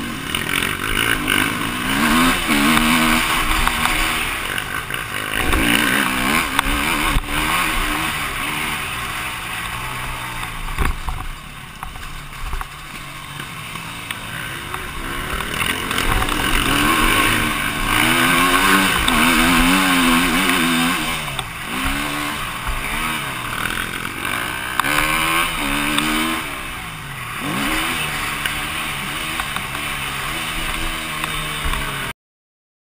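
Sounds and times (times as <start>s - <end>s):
motorcycle engine revving: 0.0s - 32.1s.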